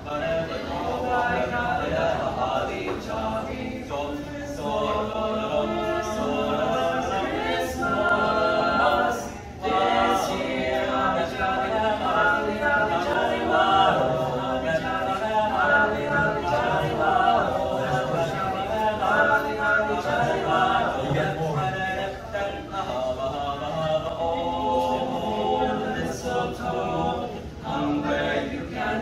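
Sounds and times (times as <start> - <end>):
boys singing a cappella: 0.0 - 29.0.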